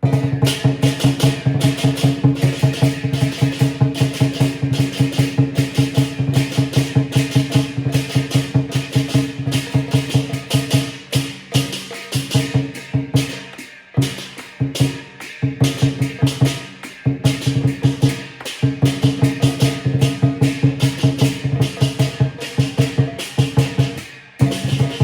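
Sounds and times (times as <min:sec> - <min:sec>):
cymbals clashing: 0:00.0 - 0:25.0
large drum beating: 0:00.0 - 0:25.0.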